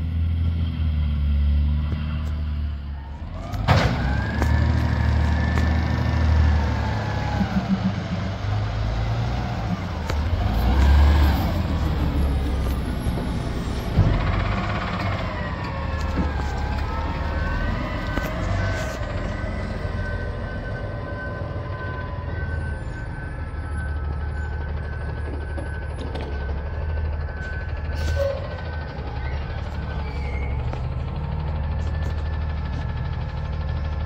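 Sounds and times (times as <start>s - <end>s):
garbage truck engine rumble: 0.0s - 34.0s.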